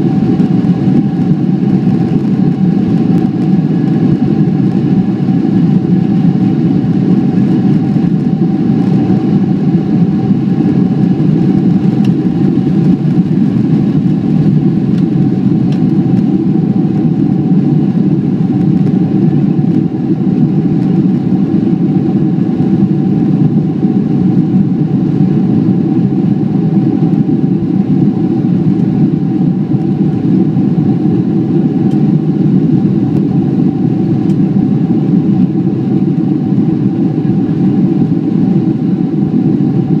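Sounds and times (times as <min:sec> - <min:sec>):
jet engines and airflow rumble: 0:00.0 - 0:40.0.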